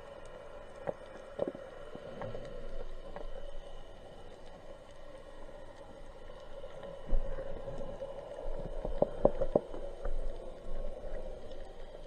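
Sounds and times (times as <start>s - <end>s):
faint clicks: 0.0s - 12.0s
underwater low hum: 0.0s - 12.0s.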